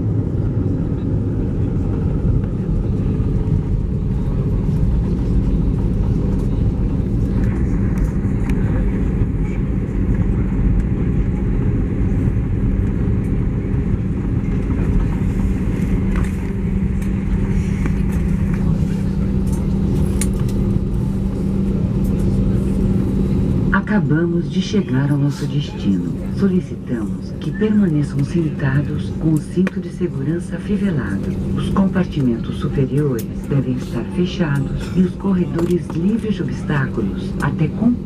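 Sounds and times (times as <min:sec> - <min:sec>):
airplane cabin rumble: 0:00.0 - 0:38.0
jet engine hum: 0:00.0 - 0:38.0.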